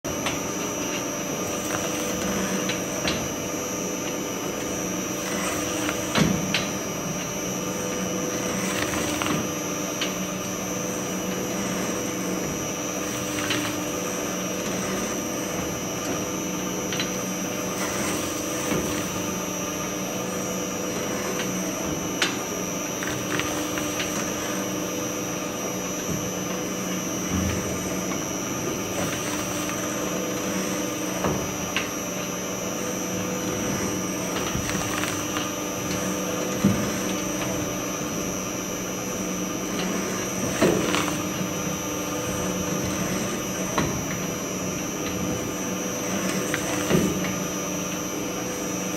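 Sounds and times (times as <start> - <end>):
shredder motor hum: 0.0 - 48.9.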